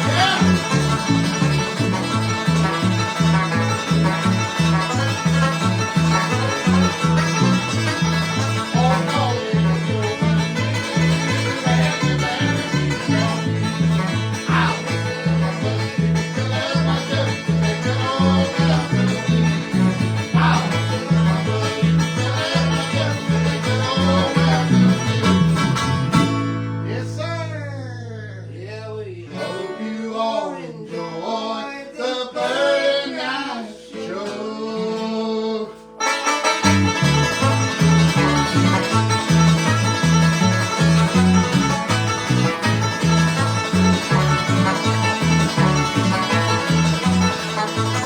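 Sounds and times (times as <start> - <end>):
picked banjo: 0.0 - 27.1, 32.4 - 48.0
driving bass rhythm: 0.0 - 28.5, 36.1 - 48.0
acoustic guitar: 0.0 - 48.0.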